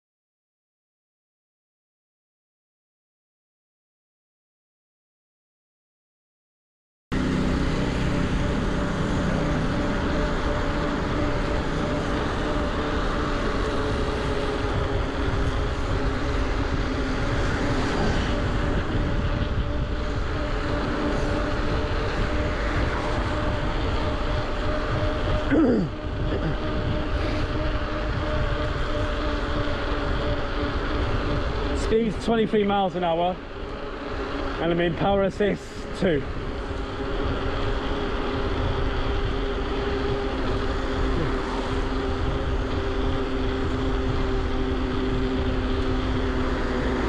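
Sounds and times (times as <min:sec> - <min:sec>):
wind and tyre noise: 0:07.1 - 0:47.0
electric bike motor whining: 0:07.2 - 0:47.0.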